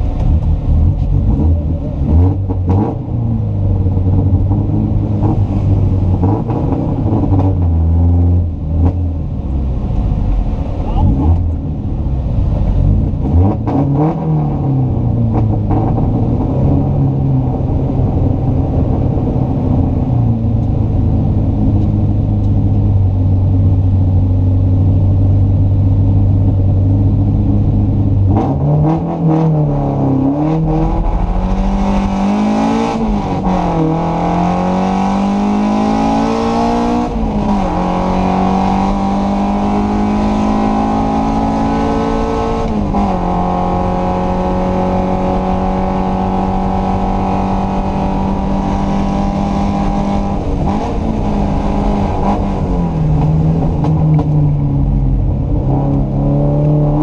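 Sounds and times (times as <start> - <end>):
race car engine revving: 0.0 - 24.0, 25.2 - 57.0.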